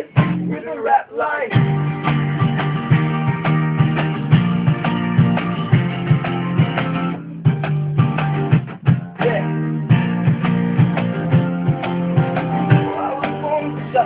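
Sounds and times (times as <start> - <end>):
rock band playing: 0.0 - 0.6, 1.5 - 14.0.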